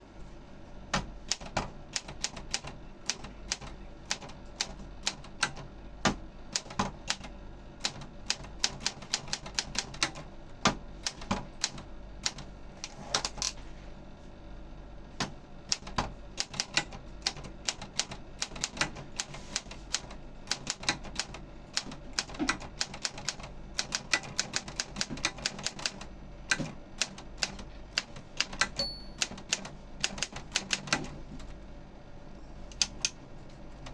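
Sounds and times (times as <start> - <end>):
typewriter keys striking: 1.0 - 5.6, 6.6 - 13.6, 15.2 - 31.2.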